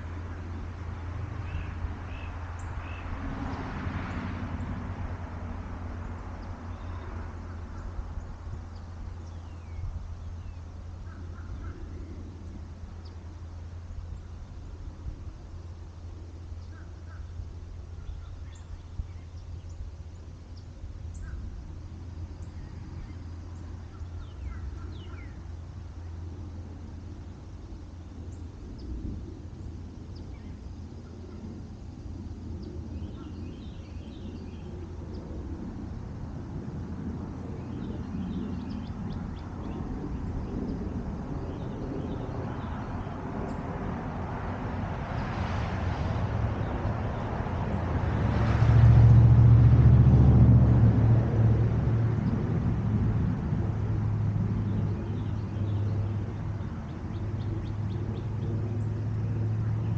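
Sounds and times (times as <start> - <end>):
low rumble with hum: 0.0 - 59.9.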